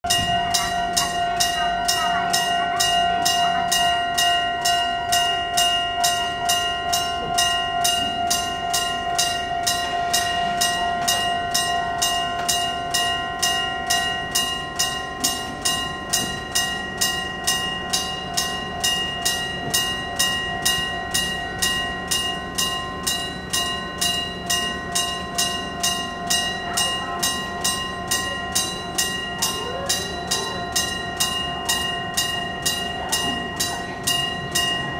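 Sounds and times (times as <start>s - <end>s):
level crossing bell ringing: 0.0s - 34.9s
neighbouring crossing alarm: 0.0s - 34.9s.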